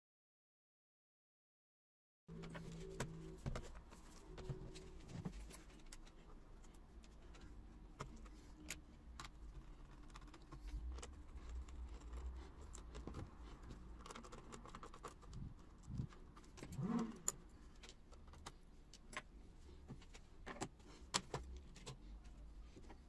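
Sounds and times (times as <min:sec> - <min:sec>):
laptop handling noise: 0:02.3 - 0:23.0.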